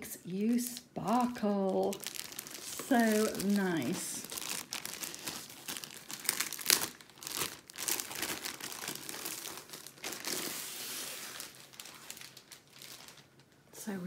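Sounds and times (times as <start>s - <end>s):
plastic cover crinkling: 0.4s - 14.0s.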